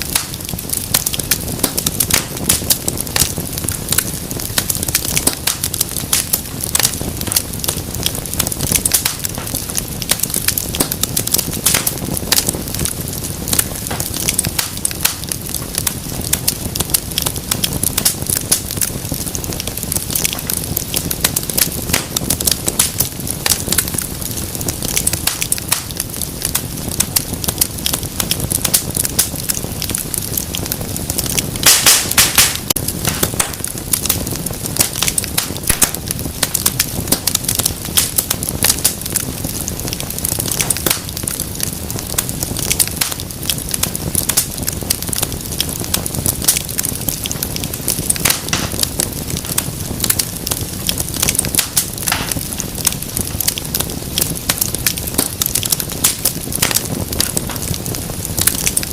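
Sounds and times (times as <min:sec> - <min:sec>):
fireplace fire crackling: 0:00.0 - 0:58.9.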